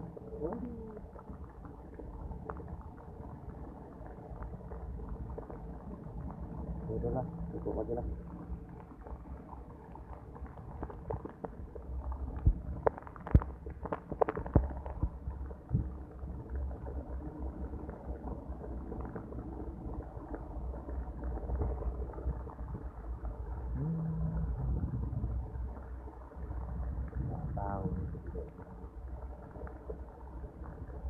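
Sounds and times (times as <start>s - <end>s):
muffled heavy rain: 0.0s - 31.0s.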